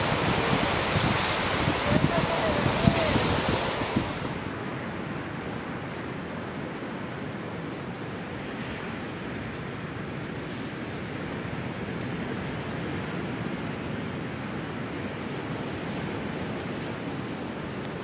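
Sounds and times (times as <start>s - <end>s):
surf on a beach: 0.0s - 18.0s.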